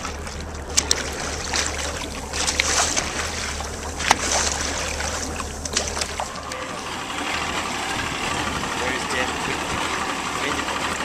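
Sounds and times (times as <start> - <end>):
boat engine drone: 0.0 - 11.0
wind and water rushing: 0.0 - 11.0.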